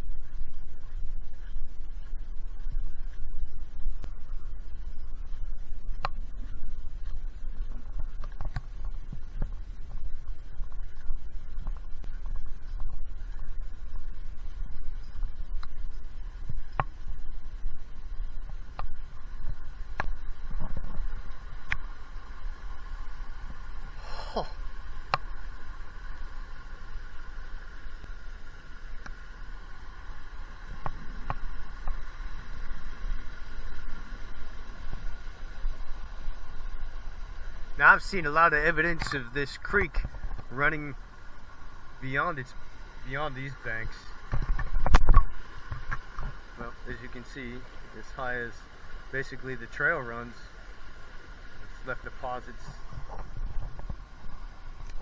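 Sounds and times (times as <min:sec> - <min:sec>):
low microphone rumble: 0:00.0 - 0:55.0
creek rushing: 0:06.4 - 0:55.0.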